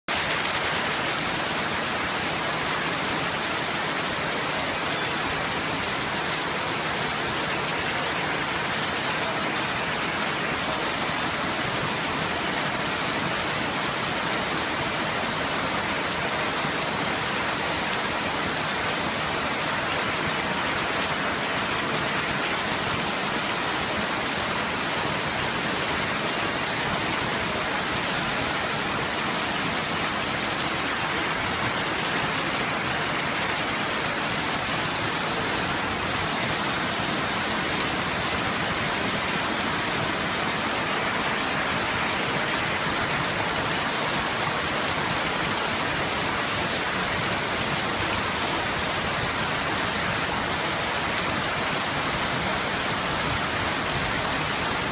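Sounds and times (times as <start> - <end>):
heavy rain on flooded street: 0.0 - 54.9.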